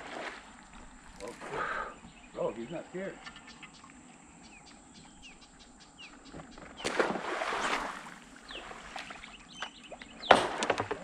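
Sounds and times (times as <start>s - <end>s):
small birds chirping: 0.9s - 10.4s.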